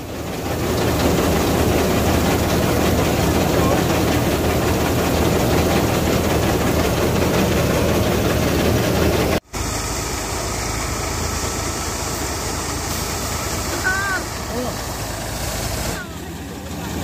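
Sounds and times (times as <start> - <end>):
engine running loudly: 0.0 - 17.0.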